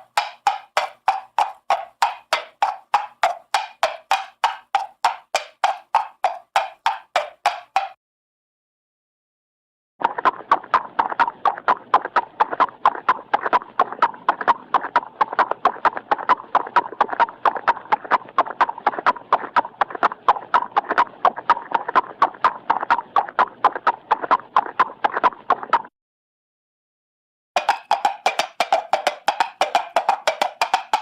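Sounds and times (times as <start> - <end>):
horse hooves clip-clopping: 0.0 - 8.0, 10.1 - 25.9, 27.6 - 31.0.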